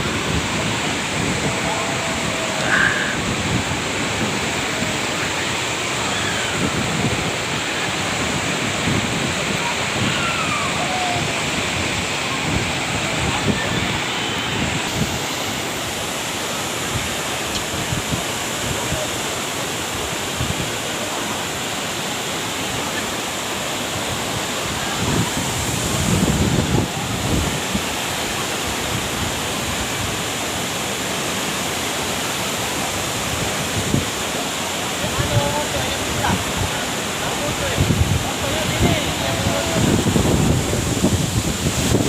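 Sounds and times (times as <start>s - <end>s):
waterfall crashing into pool: 0.0s - 42.0s.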